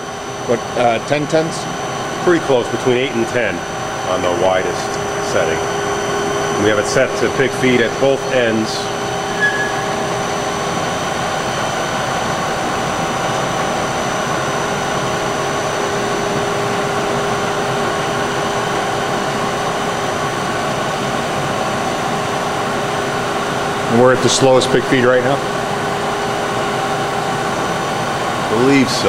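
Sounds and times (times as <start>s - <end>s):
grinder humming with high whine: 0.0s - 29.0s.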